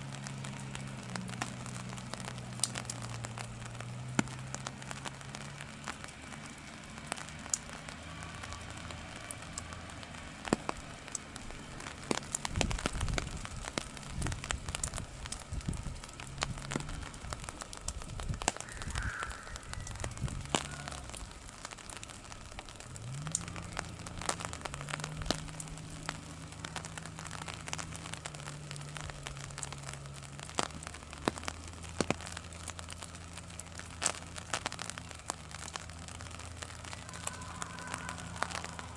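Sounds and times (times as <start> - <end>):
raindrops tapping on umbrella: 0.0 - 38.9.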